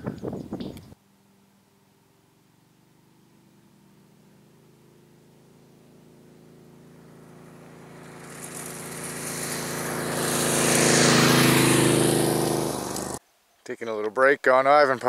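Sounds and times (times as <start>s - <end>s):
road noise: 0.0s - 13.2s
vehicle engine approaching: 1.0s - 13.2s.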